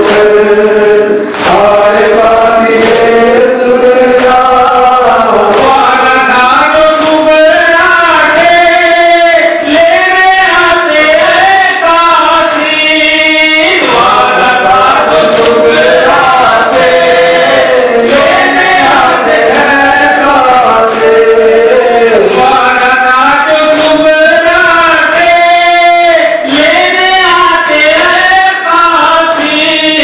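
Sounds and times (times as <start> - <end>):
men chanting a lament: 0.0 - 30.0.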